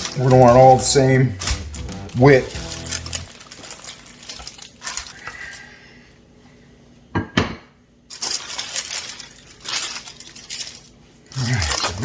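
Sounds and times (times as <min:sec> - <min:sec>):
wax paper rustling and crinkling: 0:00.0 - 0:05.8, 0:08.1 - 0:12.0.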